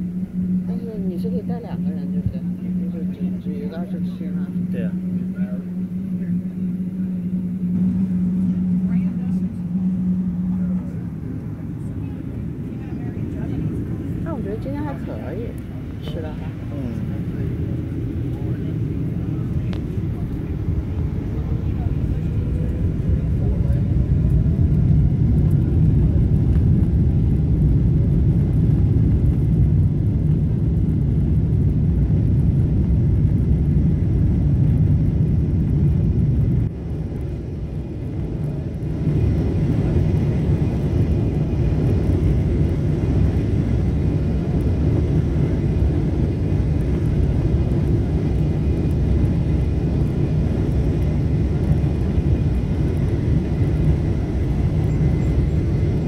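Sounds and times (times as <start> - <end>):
aircraft rolling on runway: 0.0 - 56.0
jet engines rumbling: 0.0 - 56.0.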